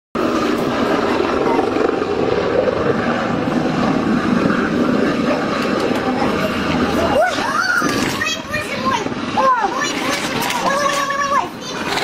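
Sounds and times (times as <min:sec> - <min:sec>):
helicopter rotor chop: 0:00.2 - 0:12.0.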